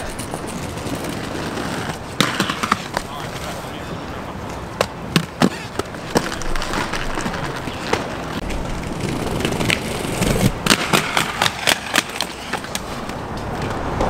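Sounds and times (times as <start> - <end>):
inline skates rolling on pavement: 0.0 - 14.0
skate wheels and frames clacking: 0.0 - 14.0.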